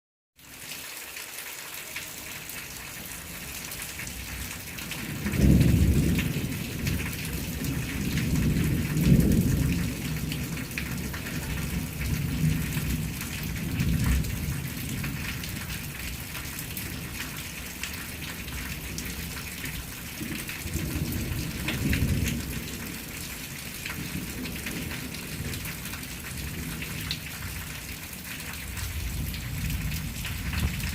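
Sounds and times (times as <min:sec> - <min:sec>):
steady rain falling: 0:00.4 - 0:30.9.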